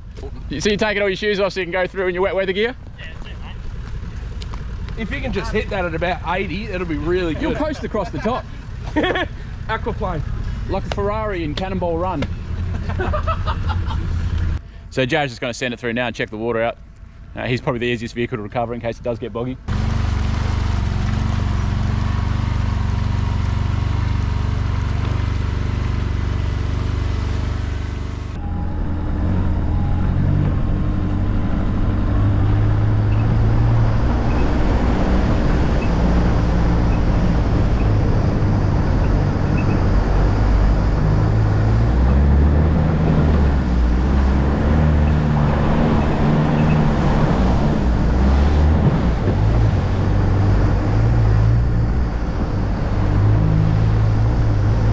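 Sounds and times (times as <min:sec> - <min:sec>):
buggy engine running: 0:00.0 - 0:54.9.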